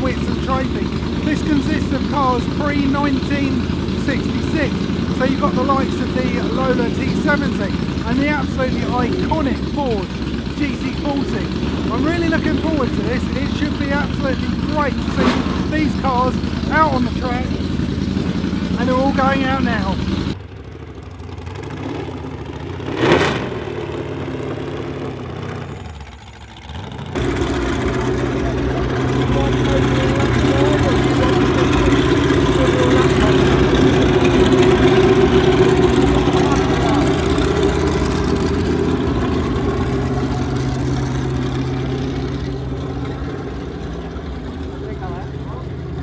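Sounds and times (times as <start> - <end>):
racing car engines running: 0.0 - 46.0.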